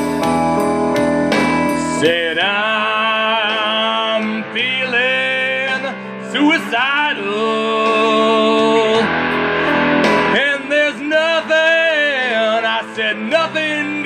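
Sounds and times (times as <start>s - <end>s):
guitar accompaniment: 0.0s - 14.0s
man singing gritty rock vocal: 1.8s - 14.0s.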